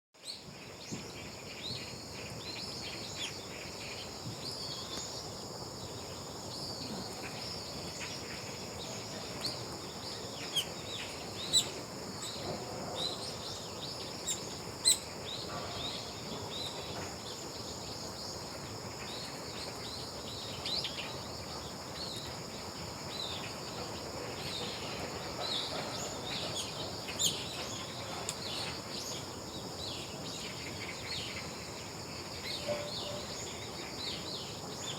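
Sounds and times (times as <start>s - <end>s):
crickets droning: 0.2s - 34.9s
small birds chirping: 0.2s - 34.9s.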